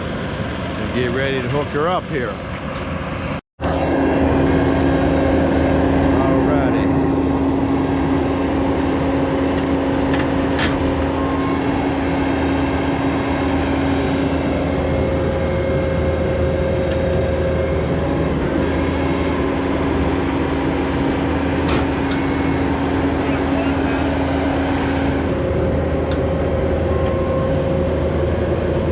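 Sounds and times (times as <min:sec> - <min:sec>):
heavy machine engine running: 0:00.0 - 0:28.9.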